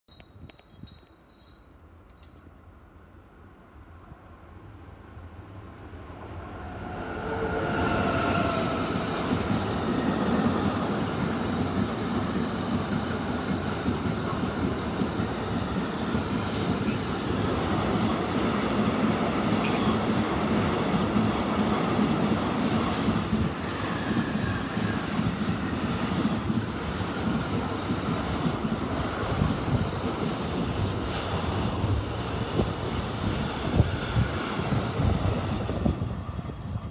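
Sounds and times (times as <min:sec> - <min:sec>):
electric locomotive passing: 0:02.7 - 0:36.9
wagon wheels rumbling on rail: 0:06.8 - 0:36.9.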